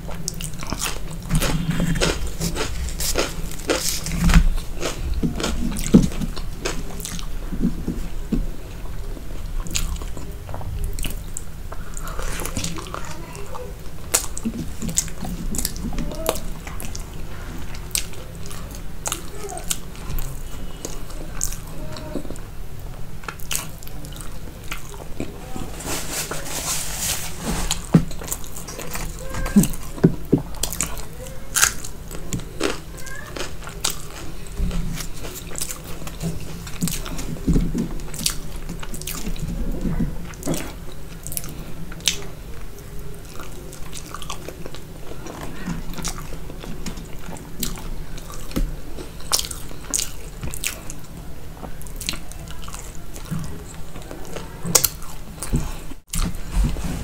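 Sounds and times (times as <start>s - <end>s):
close chewing and biting: 0.0s - 22.4s, 23.2s - 57.0s.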